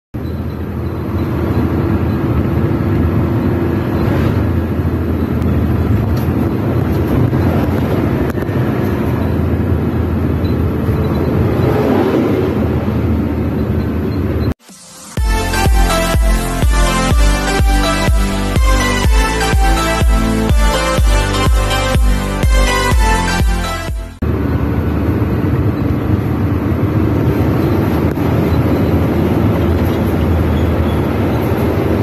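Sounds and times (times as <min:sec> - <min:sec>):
vehicle engine and road noise: 0:00.2 - 0:32.0.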